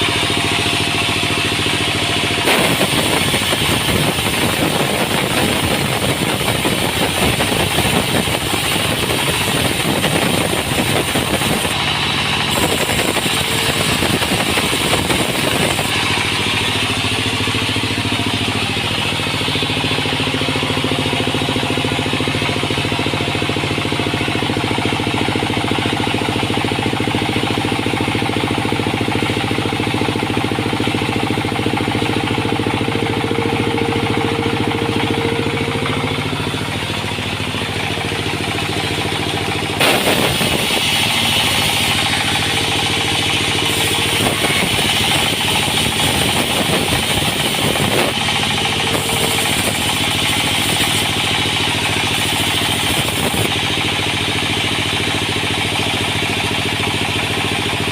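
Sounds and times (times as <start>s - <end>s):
sawmill machinery engine running: 0.0s - 57.9s.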